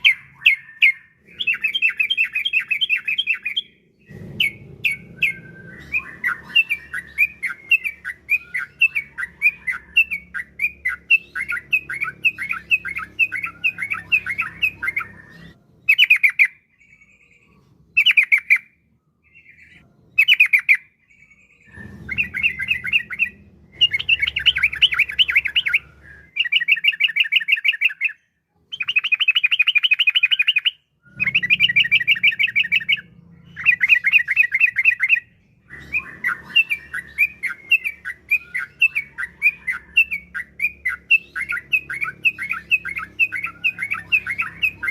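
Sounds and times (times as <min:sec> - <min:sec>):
bulbul chirping: 0:00.0 - 0:17.4, 0:18.0 - 0:44.9.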